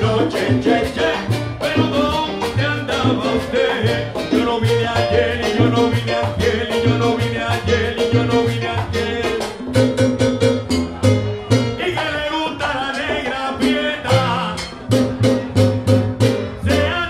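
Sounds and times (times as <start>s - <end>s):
repeating bass line: 0.0s - 12.2s, 13.6s - 17.0s
timbales and congas: 0.0s - 17.0s.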